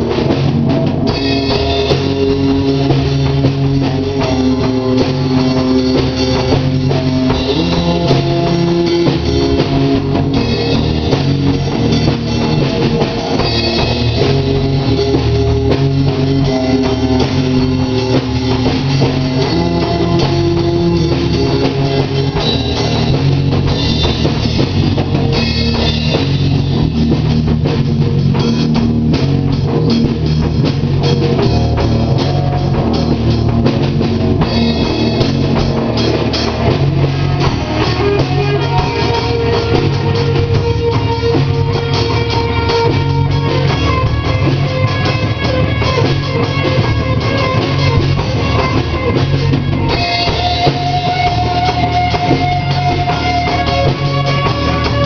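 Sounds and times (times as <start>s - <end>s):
rock music with guitar and drums: 0.0s - 55.0s.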